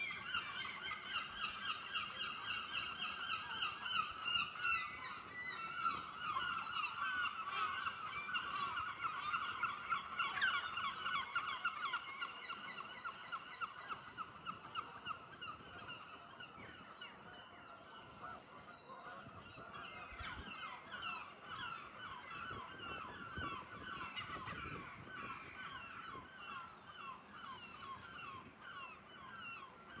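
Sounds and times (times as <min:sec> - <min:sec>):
gulls calling: 0:00.0 - 0:30.0.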